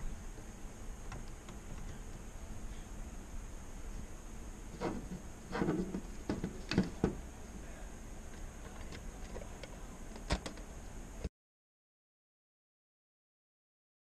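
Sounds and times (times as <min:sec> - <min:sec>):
faint high whine: 0:00.0 - 0:11.3
steady hum: 0:00.0 - 0:11.3.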